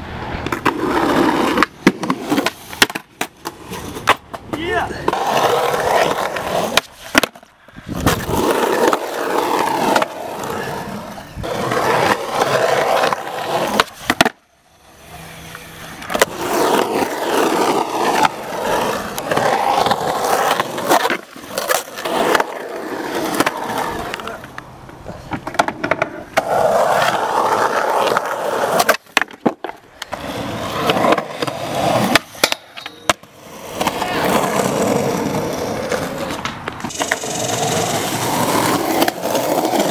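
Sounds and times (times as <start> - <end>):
skateboard wheels rolling on concrete: 0.0 - 39.9
skateboard clacks: 0.3 - 10.7, 11.4 - 14.4, 15.2 - 39.9.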